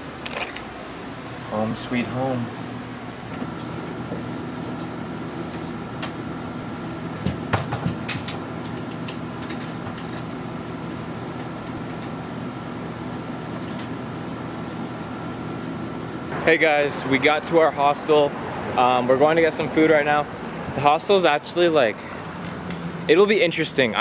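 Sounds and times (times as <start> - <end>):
machine hum with high tone: 0.0 - 24.0.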